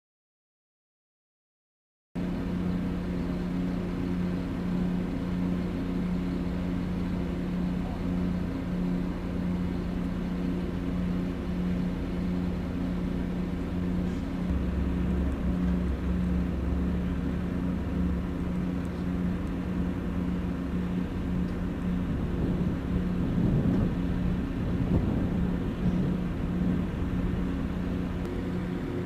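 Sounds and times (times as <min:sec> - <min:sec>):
large engine droning: 0:02.2 - 0:29.0.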